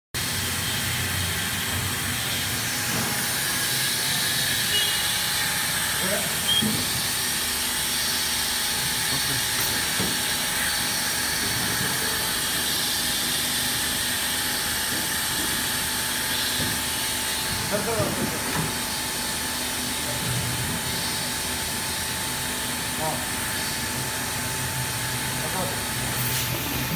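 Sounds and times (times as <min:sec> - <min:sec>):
filling machine hissing: 0:00.2 - 0:26.9.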